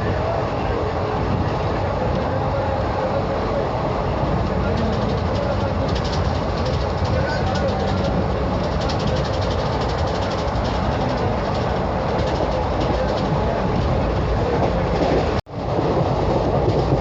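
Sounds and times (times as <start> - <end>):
train rumble and rail noise: 0.0 - 17.0.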